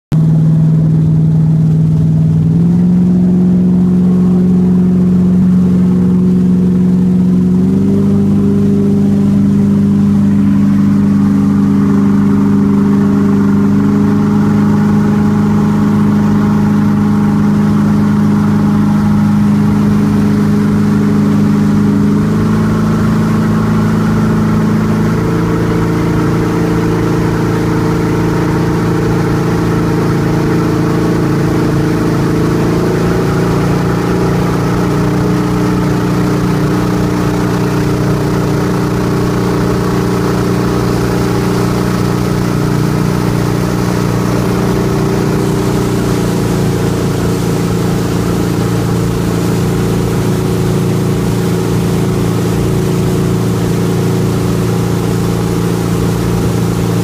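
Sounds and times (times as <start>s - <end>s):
motorboat engine running: 0.0s - 57.0s
rush of boat wake: 0.1s - 57.0s.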